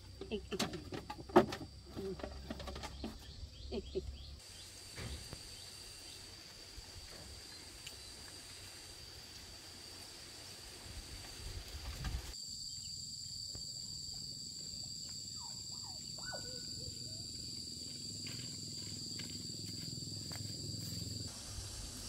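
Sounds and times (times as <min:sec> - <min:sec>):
insects shrilling drone: 0:03.5 - 0:22.0.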